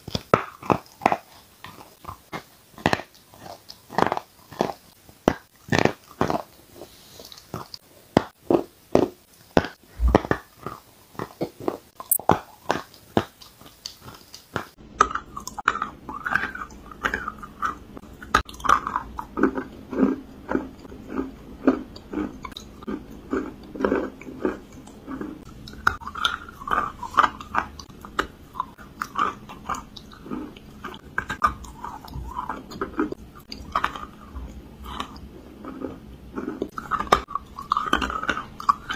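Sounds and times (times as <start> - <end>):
person crunching and chewing chalk: 0.0 - 38.9.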